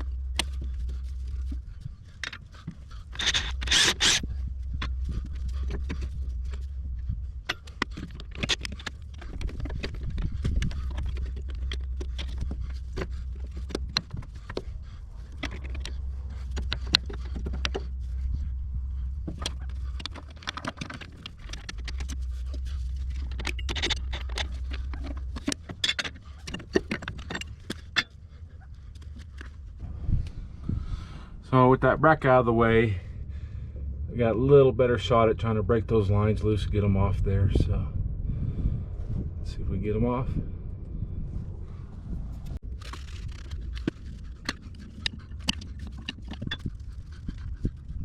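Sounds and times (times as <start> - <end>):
low rumble: 0.0 - 48.0.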